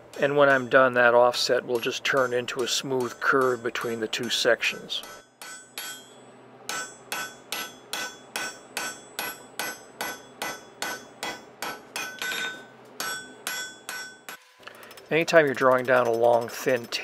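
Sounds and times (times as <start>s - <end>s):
hammer striking steel on anvil: 0.1s - 17.0s.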